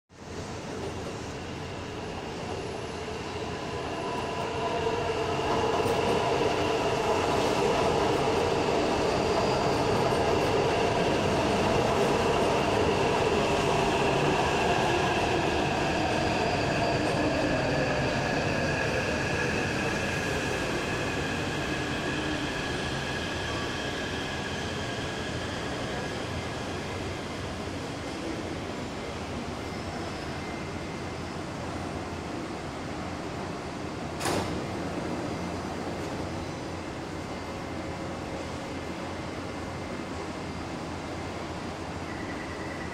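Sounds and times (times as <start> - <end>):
train running noise: 0.2 - 42.9.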